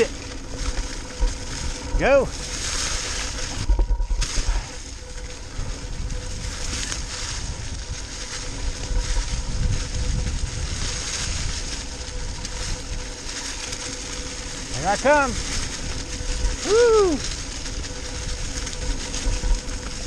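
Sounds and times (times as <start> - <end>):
bike rattling: 0.0 - 20.0
bike tyres rolling on leaves: 0.0 - 20.0
wind rumbling on microphone: 0.0 - 20.0.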